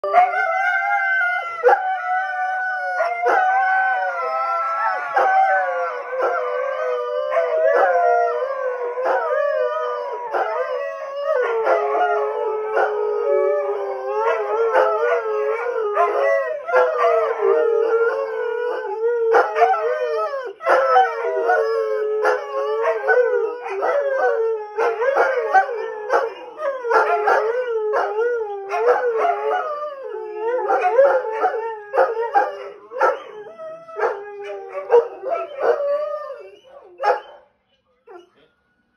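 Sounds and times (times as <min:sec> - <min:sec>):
dogs howling: 0:00.0 - 0:37.4.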